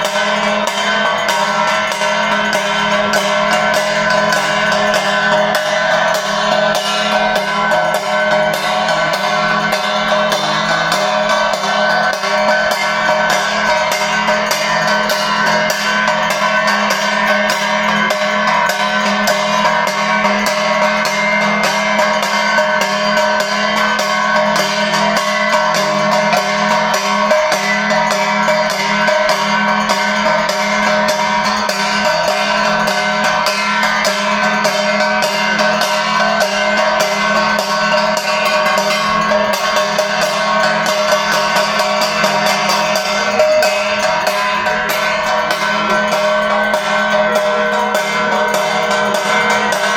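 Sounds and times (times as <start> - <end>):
rapid percussion strikes: 0.0 - 49.9
steady ringing tones: 0.0 - 49.9.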